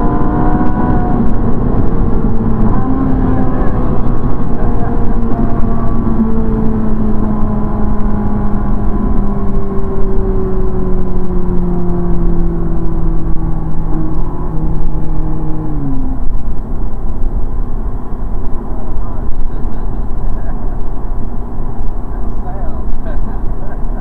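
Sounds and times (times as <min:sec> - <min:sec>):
car engine from inside cabin: 0:00.0 - 0:24.0
road and tyre rumble: 0:00.0 - 0:24.0.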